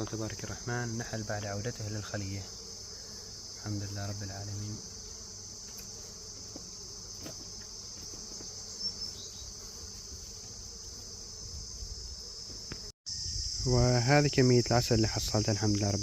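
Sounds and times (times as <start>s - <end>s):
bees humming: 0.0s - 13.6s
insects chirring: 0.0s - 16.0s.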